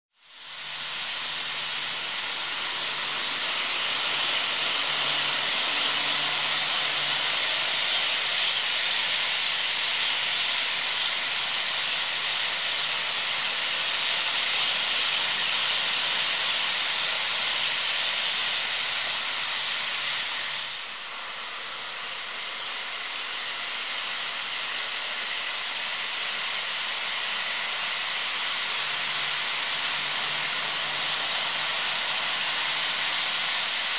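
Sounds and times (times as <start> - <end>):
model train rolling on track: 0.2 - 33.9.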